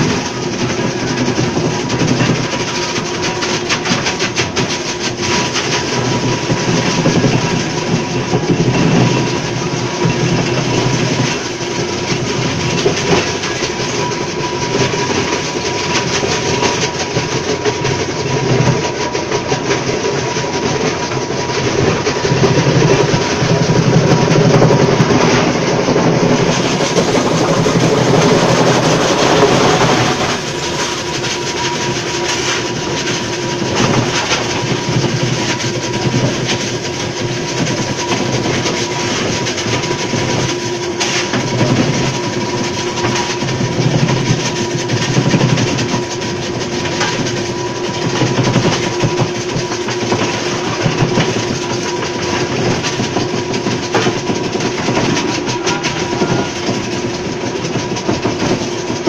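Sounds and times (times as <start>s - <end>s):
constant machine hum: 0.0s - 59.0s
ice crusher rattling: 0.0s - 59.0s.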